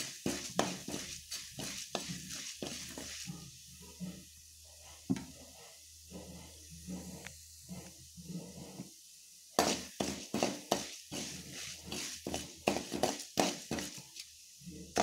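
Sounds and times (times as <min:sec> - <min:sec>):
lentils sizzling in oil: 0:00.0 - 0:15.0
spoon scraping pan: 0:00.0 - 0:15.0.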